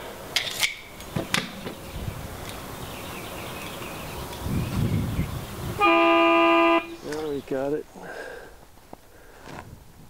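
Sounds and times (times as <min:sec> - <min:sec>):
background hiss: 0:00.0 - 0:10.0.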